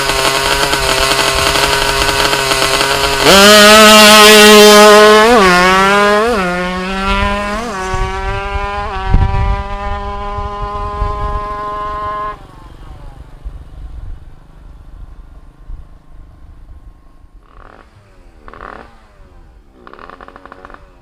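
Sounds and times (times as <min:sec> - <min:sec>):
two-stroke engine revving: 0:00.0 - 0:13.5, 0:17.4 - 0:21.0.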